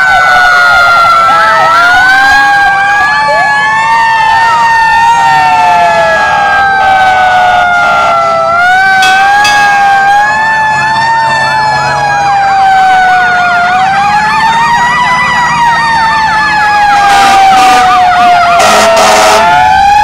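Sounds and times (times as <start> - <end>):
fire truck siren wailing: 0.0 - 20.0
siren fast yelp: 0.0 - 20.0.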